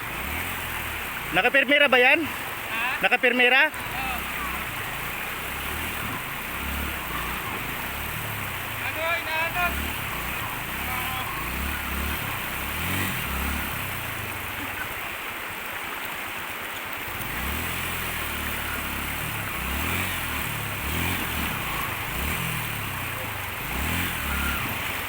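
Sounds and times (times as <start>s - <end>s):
motorcycle engine revving: 0.0s - 15.6s, 17.0s - 25.0s
river rushing: 0.0s - 25.0s.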